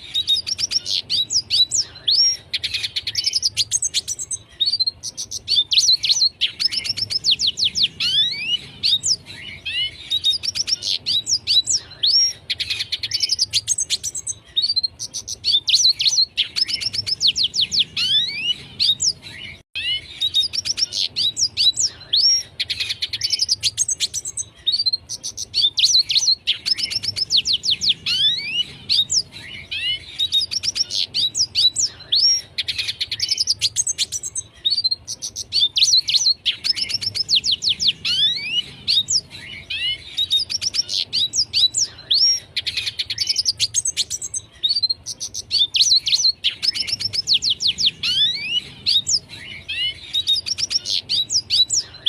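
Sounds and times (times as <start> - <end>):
bird singing twittering song: 0.0 - 52.0.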